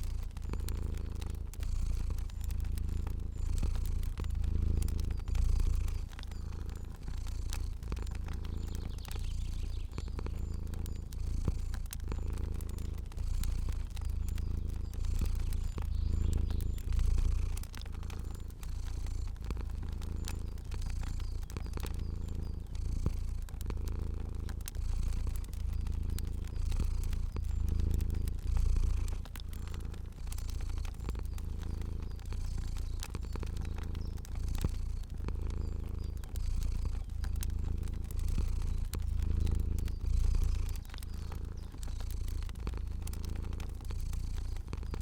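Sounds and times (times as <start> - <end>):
cat purring: 0.0 - 45.0
fire crackling: 0.0 - 45.0.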